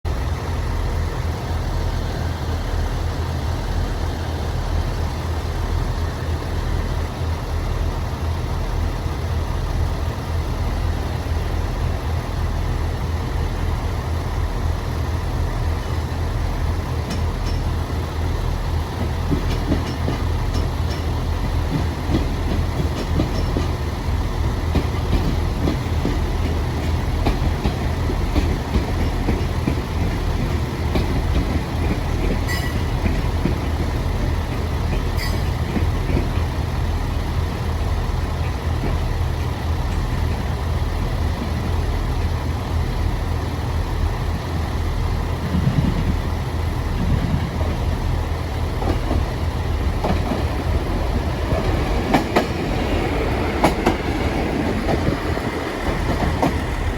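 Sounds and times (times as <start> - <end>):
diesel railcar engine: 0.0 - 56.9.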